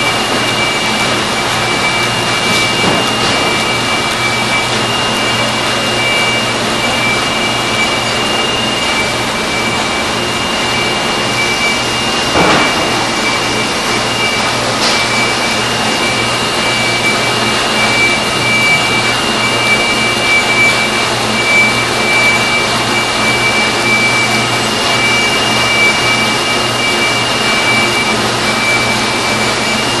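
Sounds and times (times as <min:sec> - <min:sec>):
high whining tones: 0:00.0 - 0:30.0
printing press whirring: 0:00.0 - 0:30.0.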